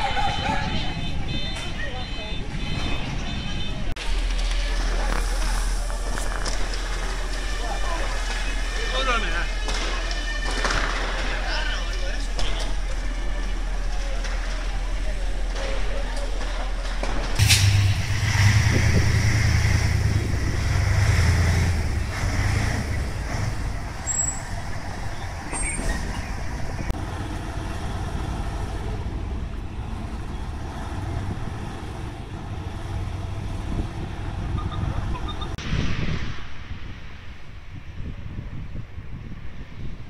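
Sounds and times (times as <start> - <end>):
fire engine diesel rumble: 0.0 - 39.9.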